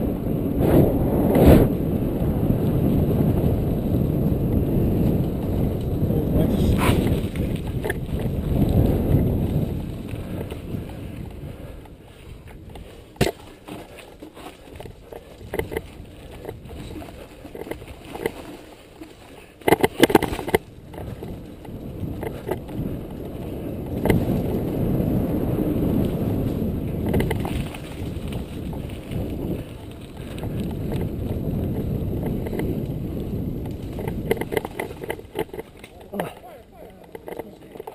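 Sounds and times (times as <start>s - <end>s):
wind rushing on microphone: 0.0s - 18.7s, 19.3s - 37.9s
bike clicking and rattling: 0.0s - 37.9s
tyre rumble: 0.0s - 37.9s.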